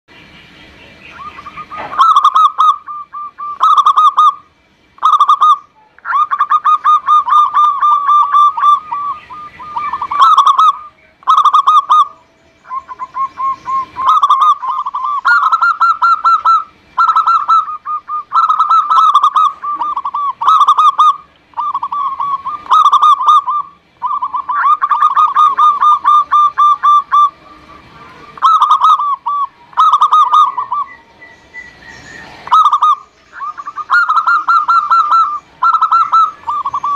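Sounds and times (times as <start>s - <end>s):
dove cooing: 1.1s - 36.9s.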